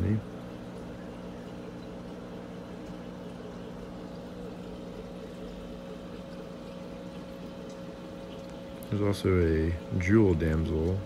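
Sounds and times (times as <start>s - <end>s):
circulating water rushing: 0.0s - 11.0s
pump humming: 0.0s - 11.0s.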